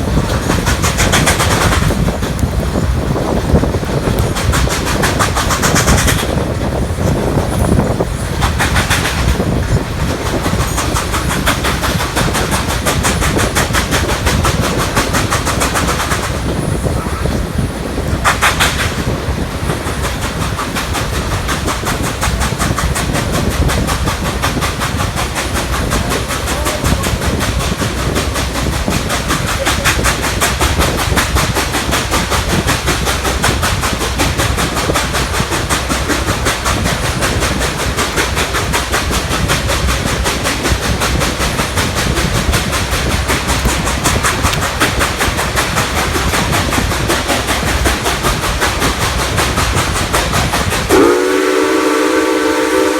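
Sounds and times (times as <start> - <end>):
steam locomotive exhaust beats: 0.0 - 52.9
train rumble: 0.0 - 52.9.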